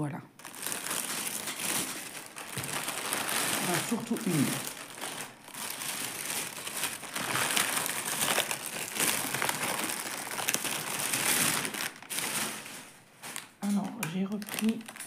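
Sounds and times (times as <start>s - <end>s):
plastic packaging crinkling: 0.4s - 15.0s.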